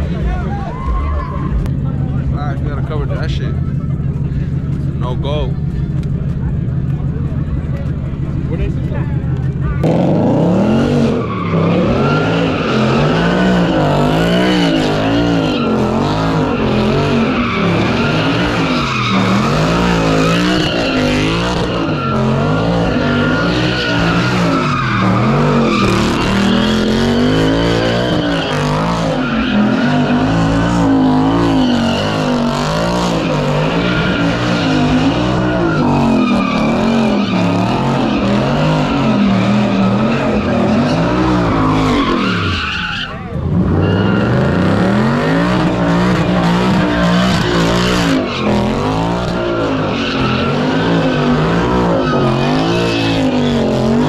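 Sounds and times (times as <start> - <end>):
car engine revving: 0.0 - 54.0
tires squealing: 0.0 - 54.0.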